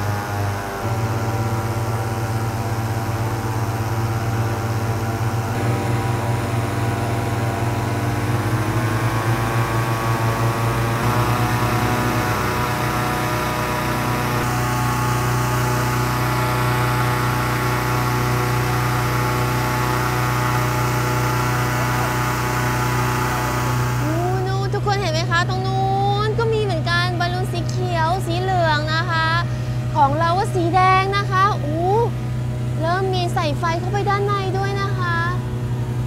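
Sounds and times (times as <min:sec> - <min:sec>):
inflator fan engine running: 0:00.0 - 0:36.0.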